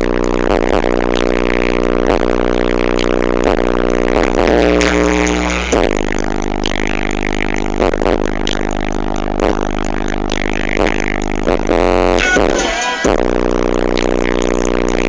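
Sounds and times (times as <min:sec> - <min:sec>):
bass-heavy music from car speakers: 0:00.0 - 0:15.0.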